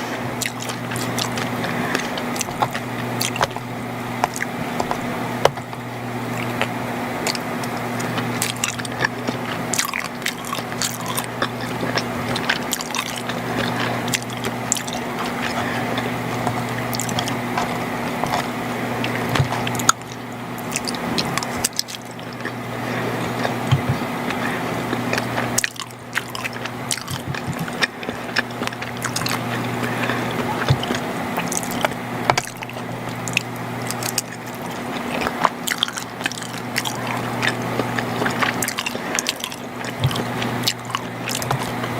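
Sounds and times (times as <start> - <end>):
chewing and mouth sounds: 0.0 - 41.9
steady low hum: 0.0 - 41.9
small mouth clicks: 0.4 - 22.6, 23.3 - 41.9.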